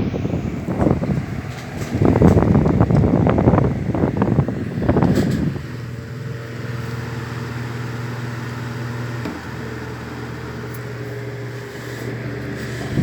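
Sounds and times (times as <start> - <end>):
table fan running: 0.0 - 13.0.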